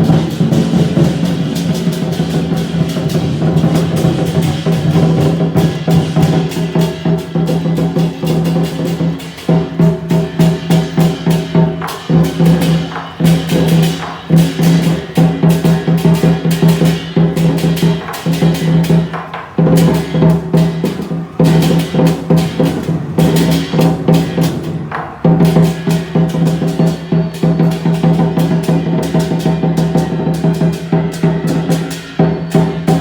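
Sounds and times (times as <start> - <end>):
drums and cymbals: 0.0 - 33.0.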